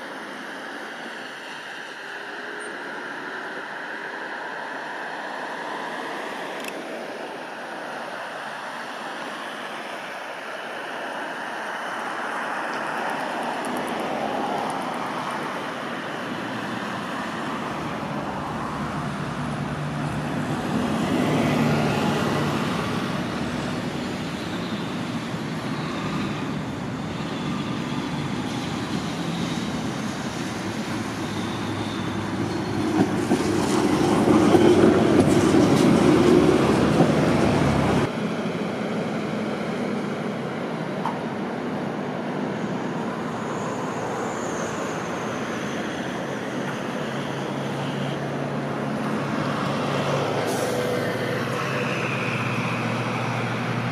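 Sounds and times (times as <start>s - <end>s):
street noise: 0.0s - 53.9s
tram humming on rails: 0.0s - 53.9s.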